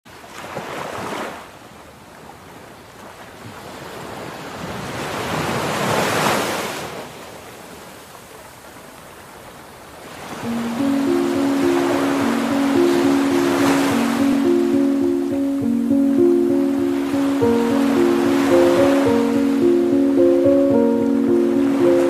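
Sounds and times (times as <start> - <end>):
waves breaking and washing in: 0.1 - 22.0.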